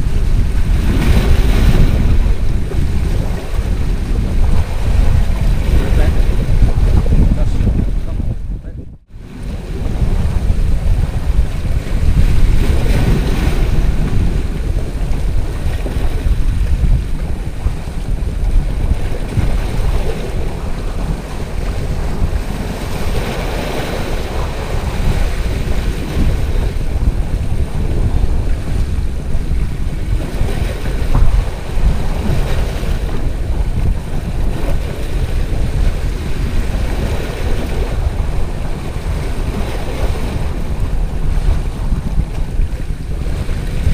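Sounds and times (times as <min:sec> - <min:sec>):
waves splashing over rocks: 0:00.0 - 0:08.3, 0:09.2 - 0:43.9
wind buffeting microphone: 0:00.0 - 0:43.9.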